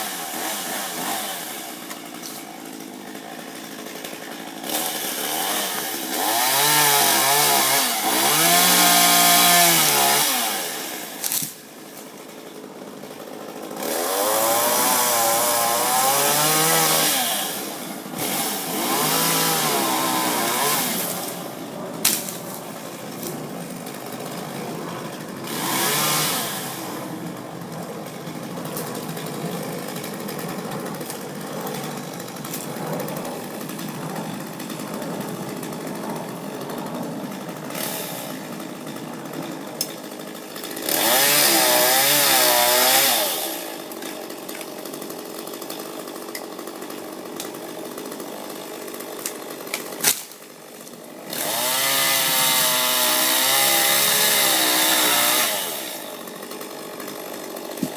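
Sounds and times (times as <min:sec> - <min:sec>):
gas chainsaw revving: 0:00.0 - 0:57.9.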